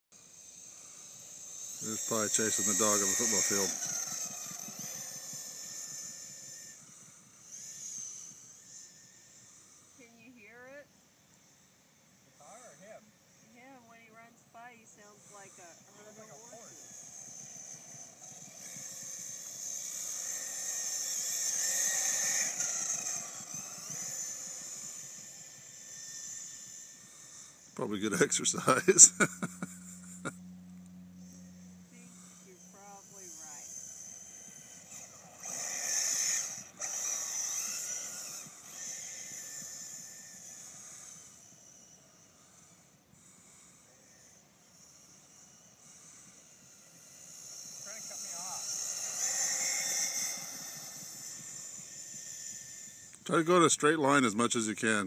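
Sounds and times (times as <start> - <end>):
rc car motor whine: 0.1 - 55.0.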